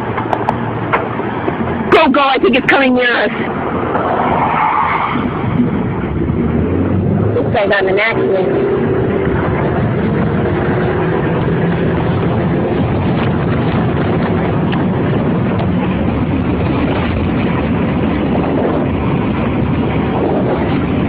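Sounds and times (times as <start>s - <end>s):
roaring wind against car: 0.0s - 21.0s.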